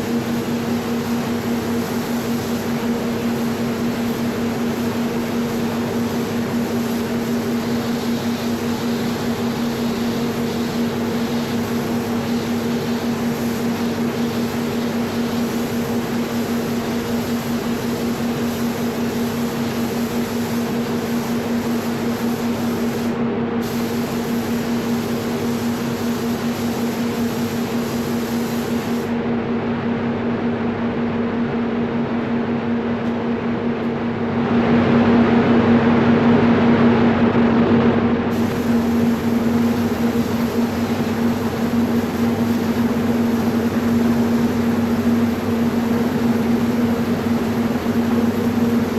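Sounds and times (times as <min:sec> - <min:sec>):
compressed air hissing: 0:00.0 - 0:29.1, 0:38.3 - 0:48.9
droning fan hum: 0:00.0 - 0:48.9.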